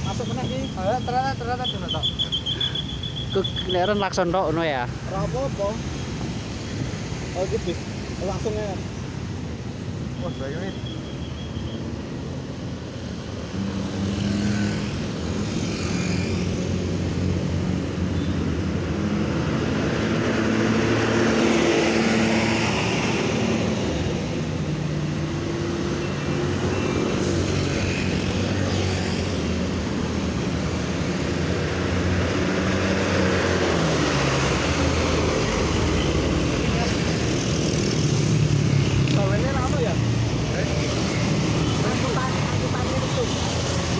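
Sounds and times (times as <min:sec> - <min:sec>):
diesel buses and trucks passing: 0:00.0 - 0:43.9.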